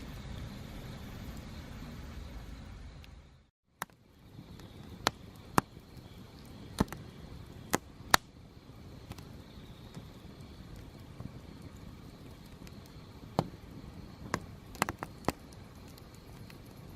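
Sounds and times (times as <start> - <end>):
low steady rumble: 0.0 - 16.9
wood fire crackling: 0.0 - 16.9
firewood popping: 3.0 - 16.9.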